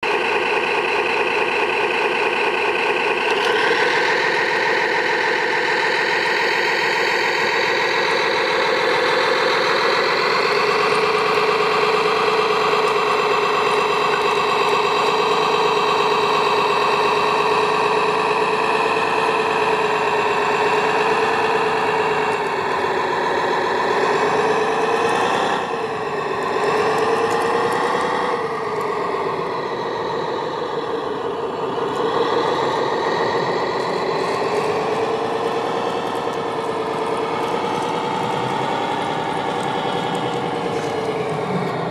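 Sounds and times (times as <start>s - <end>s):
model bulldozer engine running: 0.0s - 41.9s.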